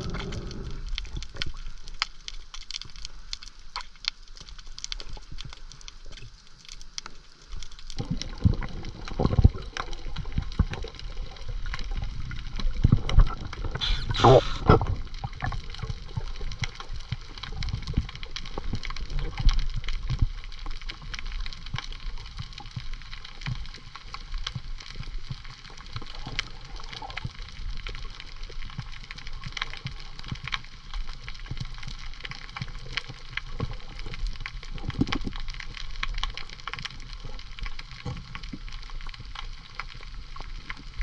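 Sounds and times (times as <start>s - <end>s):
clicks and crackles: 0.0s - 41.0s
low underwater rumble: 0.0s - 41.0s
water gurgling and sloshing: 0.0s - 41.0s.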